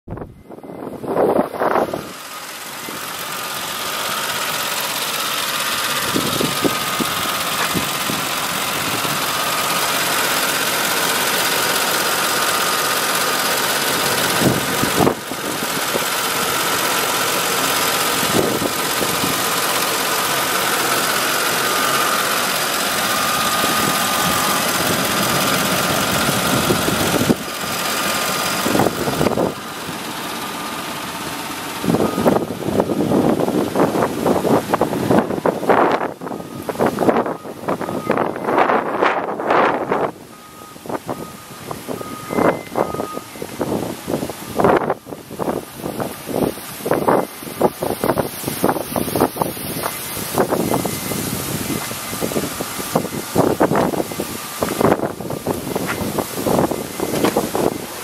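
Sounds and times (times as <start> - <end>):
truck engine idling: 0.1 - 58.0.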